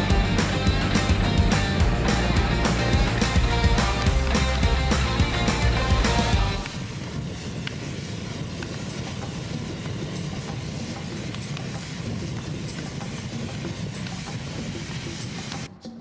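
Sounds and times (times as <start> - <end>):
fire crackling and popping: 0.0 - 15.7
fire flames rushing: 2.8 - 15.7.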